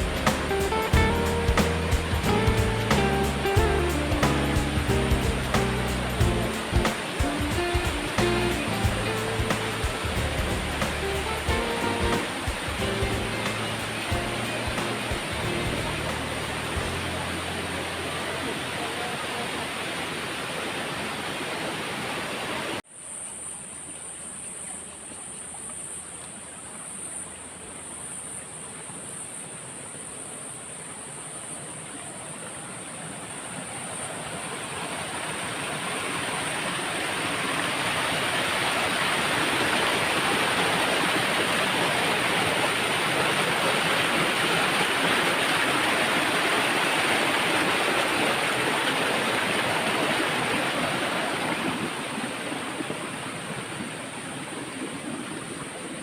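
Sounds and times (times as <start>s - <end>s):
stream and waterfall rushing: 0.0s - 22.8s, 29.6s - 56.0s.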